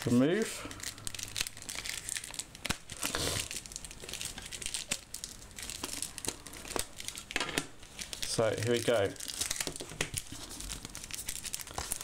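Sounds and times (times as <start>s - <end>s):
packaging card crinkling: 0.0s - 12.0s.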